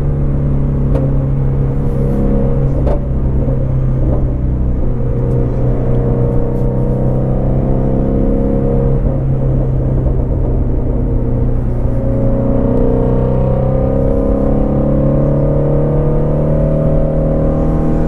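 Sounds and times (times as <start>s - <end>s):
car engine and exhaust drone: 0.0s - 18.0s.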